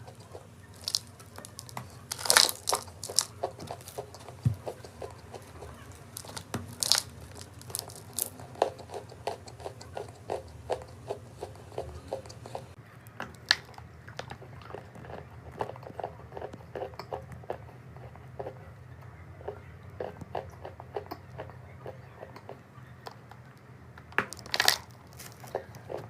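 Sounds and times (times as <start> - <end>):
chalk crunching when chewed: 0.0 - 22.7, 24.3 - 26.0.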